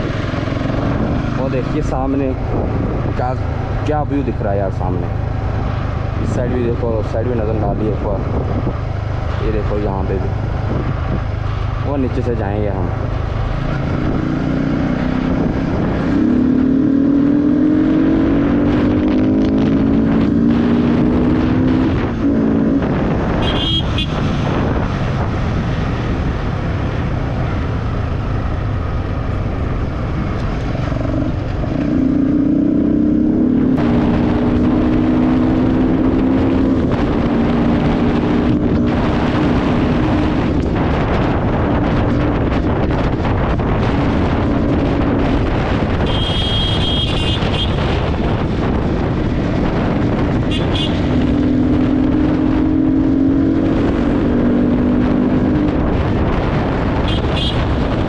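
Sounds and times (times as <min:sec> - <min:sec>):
motorcycle engine accelerating: 0:00.0 - 0:06.8, 0:12.8 - 0:58.0
wind rush on microphone: 0:00.0 - 0:58.0.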